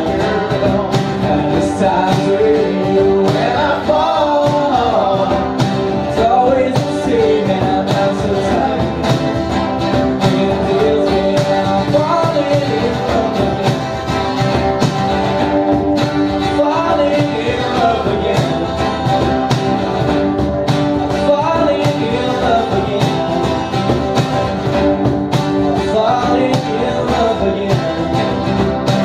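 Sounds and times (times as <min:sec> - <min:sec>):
drums steady beat: 0:00.0 - 0:29.0
live rock band playing: 0:00.0 - 0:29.0
sliding lead melody: 0:00.0 - 0:29.0.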